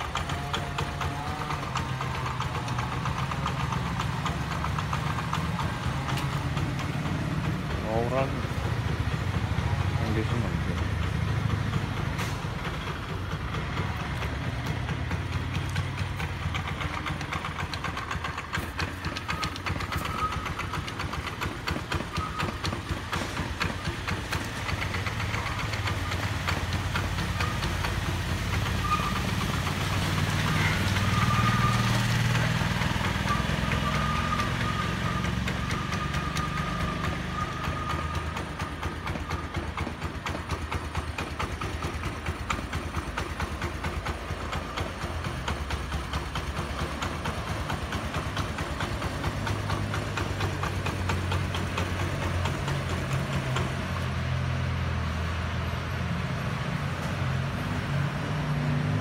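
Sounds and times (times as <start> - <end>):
scooter engine idling: 0.0 - 56.1.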